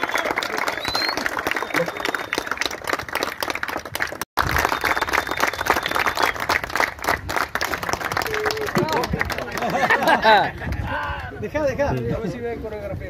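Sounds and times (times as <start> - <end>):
crowd applauding: 0.0 - 11.5.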